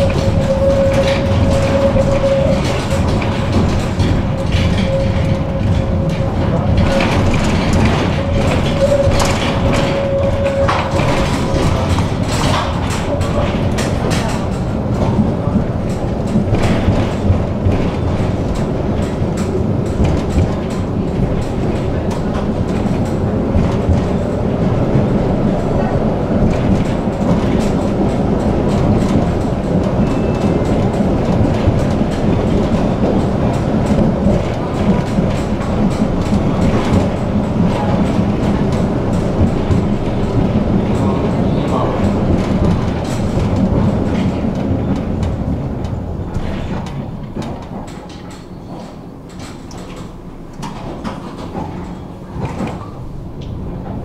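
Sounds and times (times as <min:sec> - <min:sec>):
constant whine: 0:00.0 - 0:48.2
tram rumbling and rattling: 0:00.0 - 0:54.0
wheel clicks on rails: 0:00.0 - 0:54.0.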